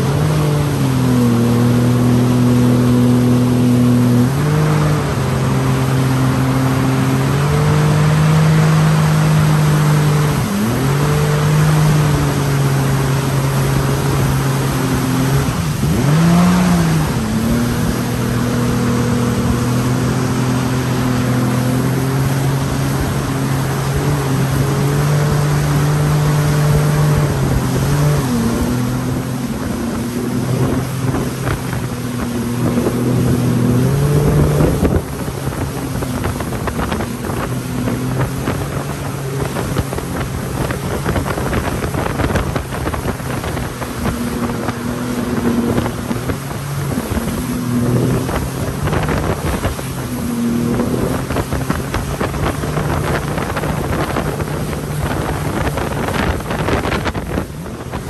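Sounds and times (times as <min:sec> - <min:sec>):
jet ski engine running: 0:00.0 - 0:58.0
wind and water rushing: 0:00.0 - 0:58.0.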